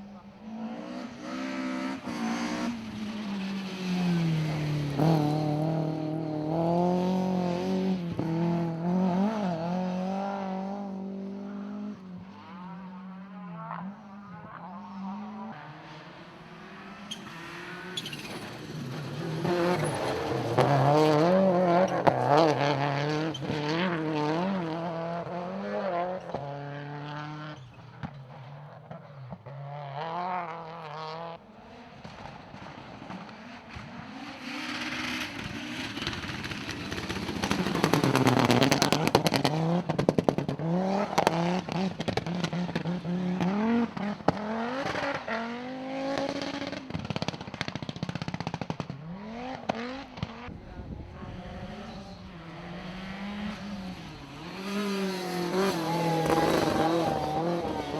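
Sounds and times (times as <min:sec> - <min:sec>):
rally car engine revving: 0:00.0 - 0:57.9
car passing with crackling exhaust: 0:00.1 - 0:57.9.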